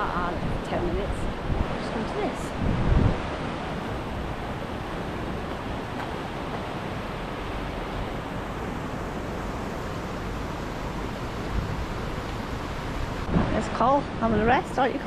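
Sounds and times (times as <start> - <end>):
mountain water rushing: 0.0 - 15.0.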